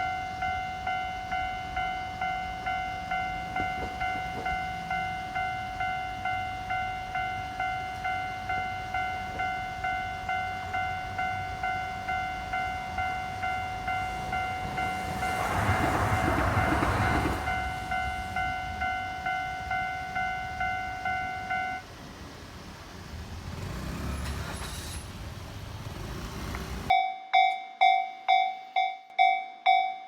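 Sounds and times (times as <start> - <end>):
level crossing bell ringing: 0.0 - 21.8, 26.9 - 30.0
tram rumbling past: 0.0 - 26.9
quiet street noise: 0.0 - 30.0.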